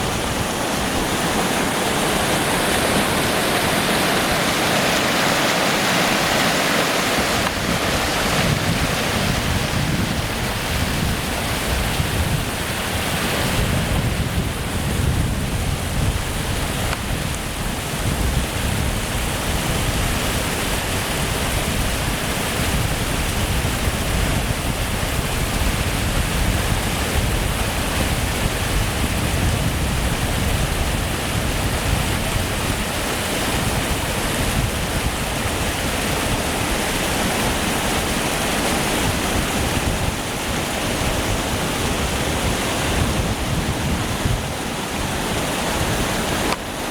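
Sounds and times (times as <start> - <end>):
waterfall crashing: 0.0 - 46.9.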